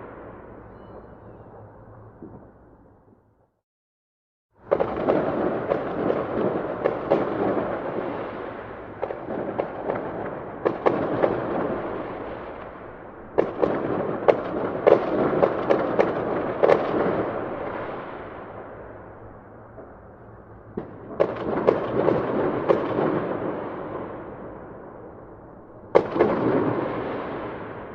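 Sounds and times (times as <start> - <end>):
fireworks bursting and crackling: 4.6 - 25.2, 25.9 - 27.9.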